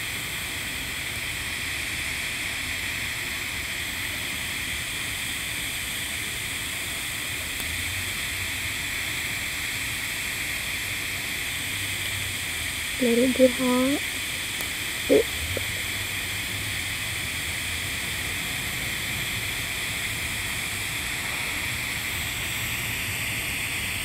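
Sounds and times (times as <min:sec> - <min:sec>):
welding arc hissing: 0:00.0 - 0:24.0.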